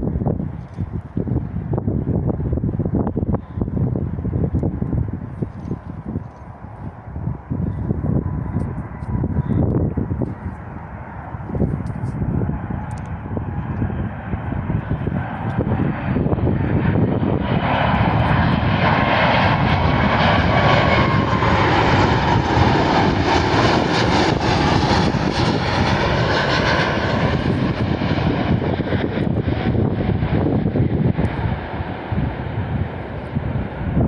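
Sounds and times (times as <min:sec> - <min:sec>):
jet engines roaring: 0:00.1 - 0:34.0
faint jet whine: 0:05.1 - 0:34.0.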